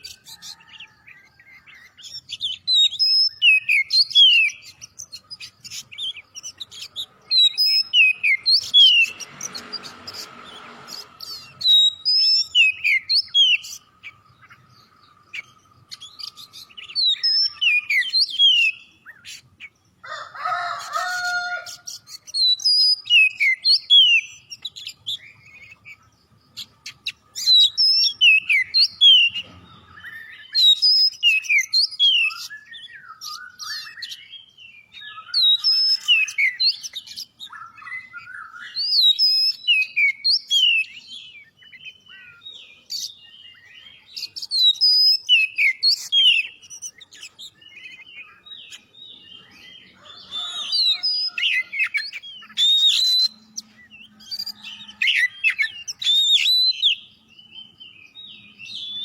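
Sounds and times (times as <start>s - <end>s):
bird singing whistled notes: 0.0s - 19.8s, 21.9s - 59.0s.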